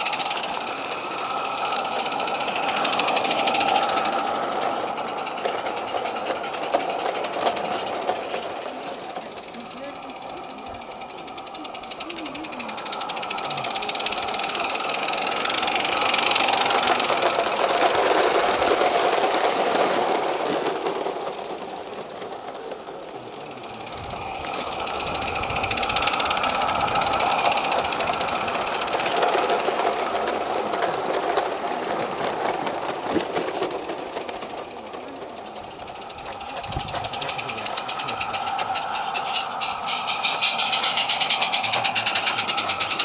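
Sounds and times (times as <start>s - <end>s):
model trains clattering past: 0.0s - 43.0s.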